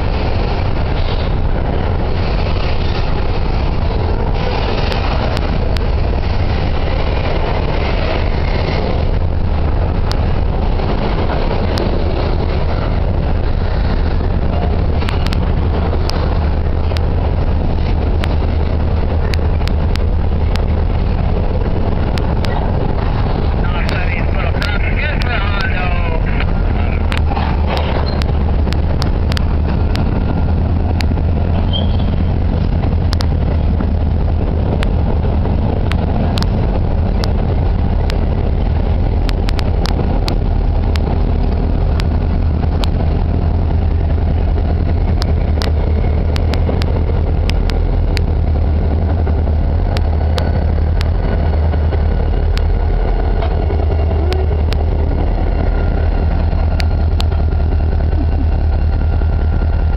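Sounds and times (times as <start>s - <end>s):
locomotive engines running: 0.0s - 59.9s
train rumbling: 0.0s - 59.9s.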